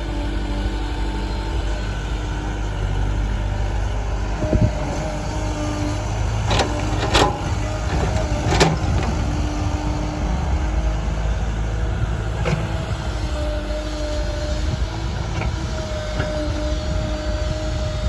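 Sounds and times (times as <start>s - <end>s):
heavy diesel machinery running: 0.0s - 18.0s.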